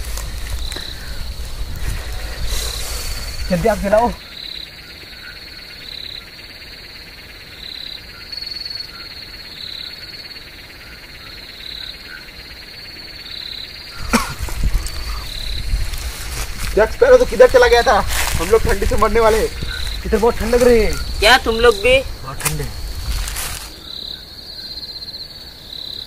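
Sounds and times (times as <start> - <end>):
frogs and insects chirring: 0.0 - 26.0.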